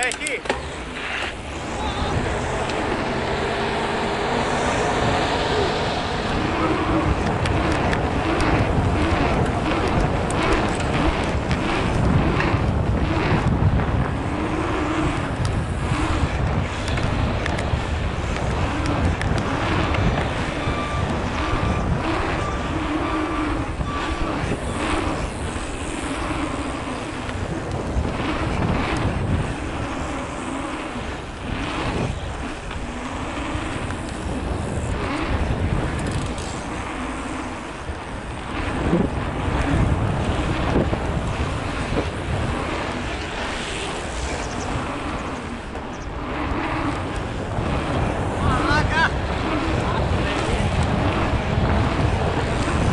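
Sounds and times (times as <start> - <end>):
tyres rolling on asphalt: 0.0 - 52.9
wind buffeting microphone: 0.0 - 52.9.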